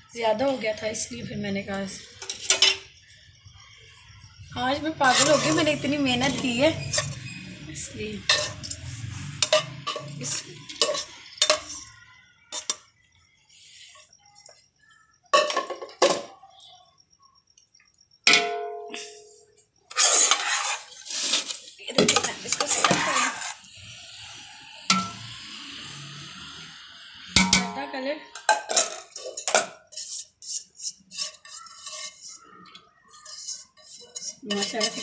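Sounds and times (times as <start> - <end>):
metal spoon scraping metal pots: 2.0 - 3.2, 4.4 - 14.6, 15.3 - 16.4, 18.3 - 35.0.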